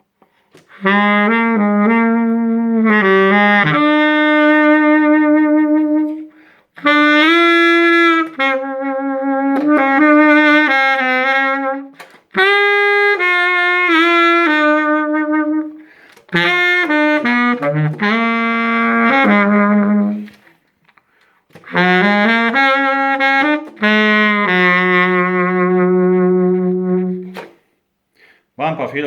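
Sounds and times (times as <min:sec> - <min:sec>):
baritone saxophone melody: 0:00.6 - 0:20.6, 0:21.5 - 0:27.6.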